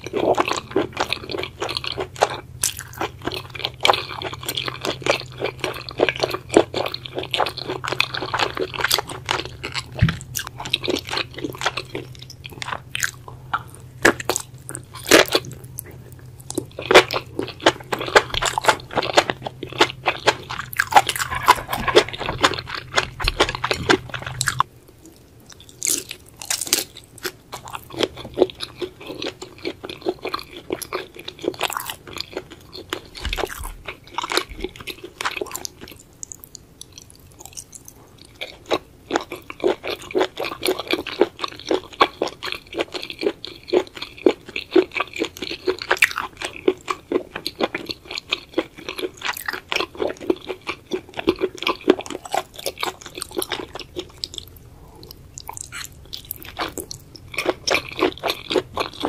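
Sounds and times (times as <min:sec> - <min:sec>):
crunchy wet chewing: 0:00.0 - 0:59.0.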